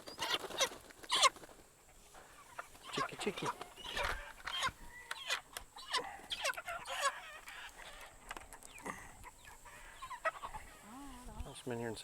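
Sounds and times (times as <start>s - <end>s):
chickens chirping and clucking: 0.0s - 12.0s.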